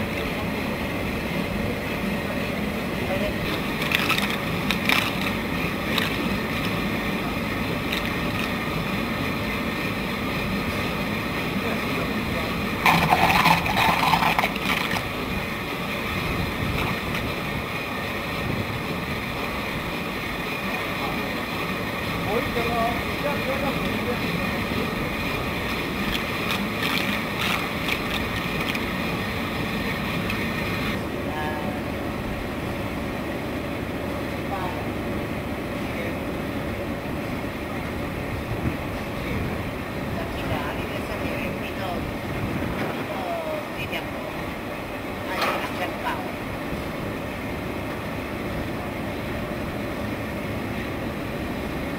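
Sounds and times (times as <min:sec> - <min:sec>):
aerator motor noise: 0:00.0 - 0:51.9
water churning: 0:00.0 - 0:51.9.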